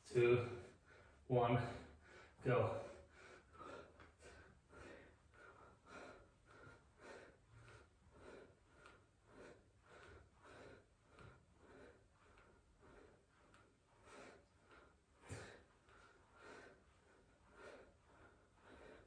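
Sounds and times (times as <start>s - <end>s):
man breathing hard: 0.0s - 19.0s.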